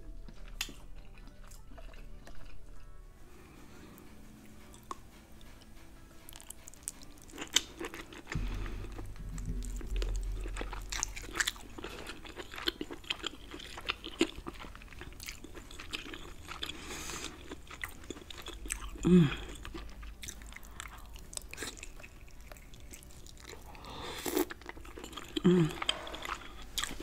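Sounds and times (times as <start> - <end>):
chewing and biting crab meat: 0.0 - 3.0, 6.2 - 27.0
steady low hum: 2.0 - 27.0.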